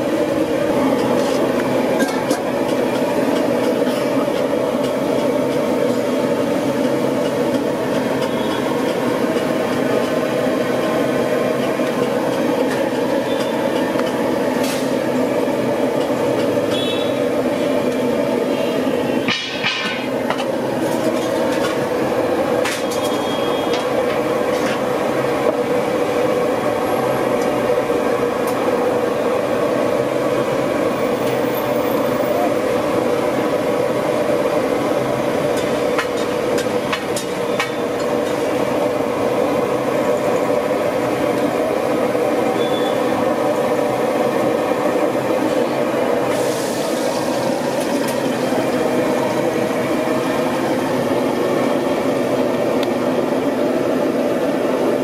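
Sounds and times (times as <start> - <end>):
continuous rumbling noise: 0.0 - 55.0.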